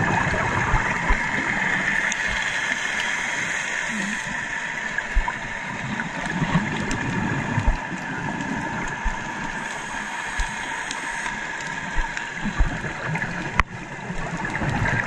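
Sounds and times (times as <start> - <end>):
underwater exhaust bubbles: 0.0 - 15.0
underwater hum: 0.0 - 15.0.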